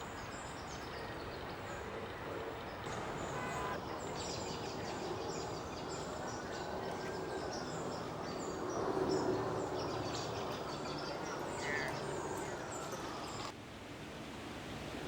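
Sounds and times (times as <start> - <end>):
songbirds high thin calls: 0.0 - 13.5.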